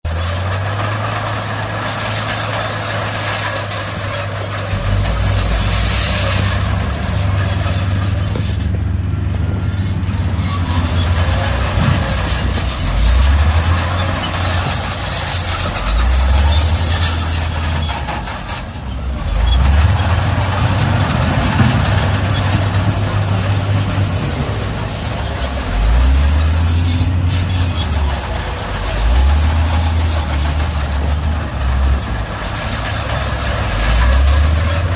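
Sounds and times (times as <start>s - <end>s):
heavy diesel engine revving: 0.0s - 34.9s.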